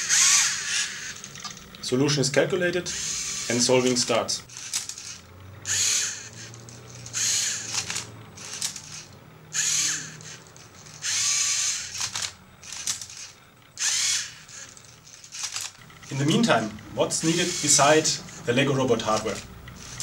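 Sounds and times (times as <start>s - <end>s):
robot motors whirring: 0.0s - 20.0s.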